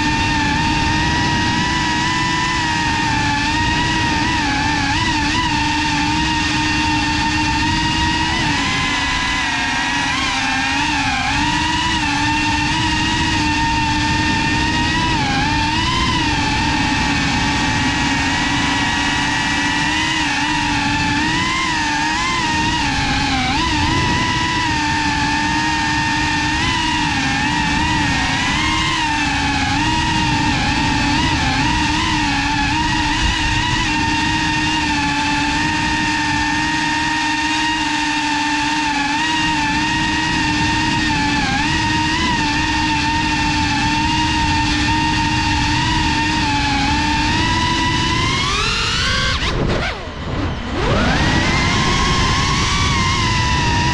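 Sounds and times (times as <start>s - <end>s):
drone propellers whining: 0.0s - 53.9s.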